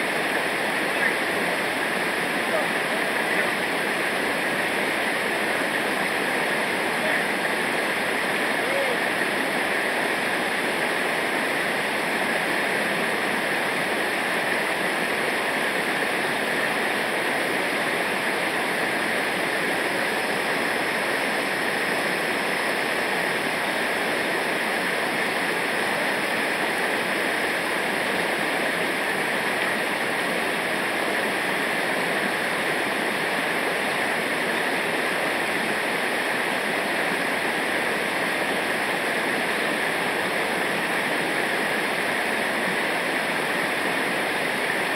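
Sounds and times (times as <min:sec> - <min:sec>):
rushing river water: 0:00.0 - 0:44.9.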